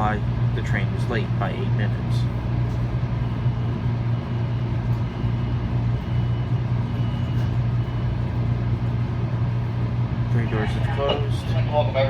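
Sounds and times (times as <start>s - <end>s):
train engine humming: 0.0s - 12.0s.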